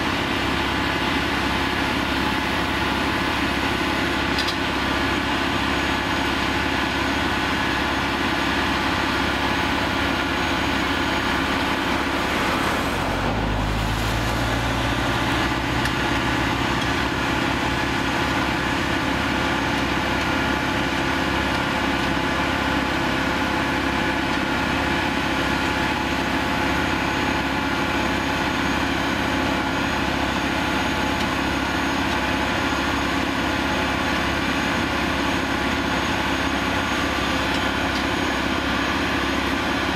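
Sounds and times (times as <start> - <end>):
welding machine engine running: 0.0 - 39.9.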